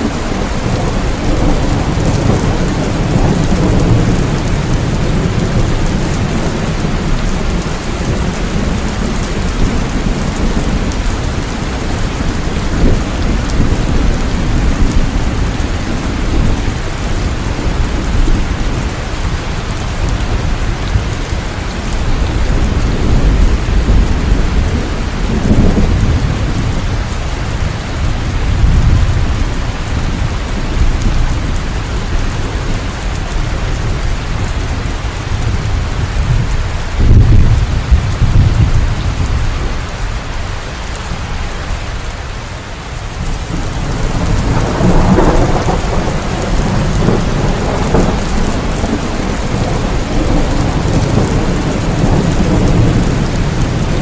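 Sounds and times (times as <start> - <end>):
rolling thunder: 0.0 - 40.2, 43.1 - 54.0
rain falling: 0.0 - 54.0.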